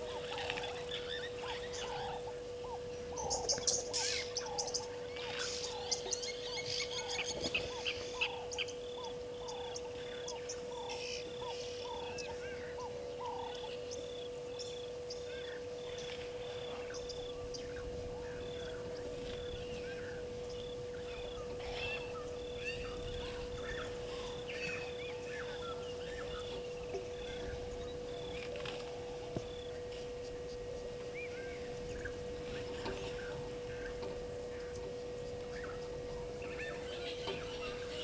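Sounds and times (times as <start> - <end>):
bird twittering: 0.0 - 38.0
birds calling: 0.0 - 38.0
steady hum: 0.0 - 38.0.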